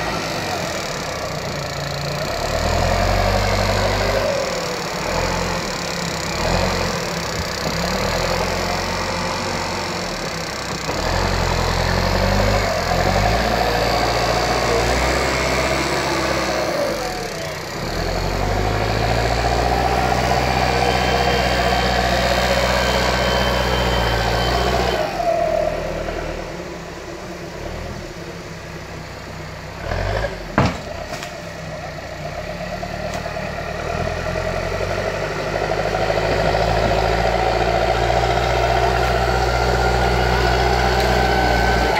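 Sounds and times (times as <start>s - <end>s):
bulldozer diesel engine working: 0.0s - 41.9s.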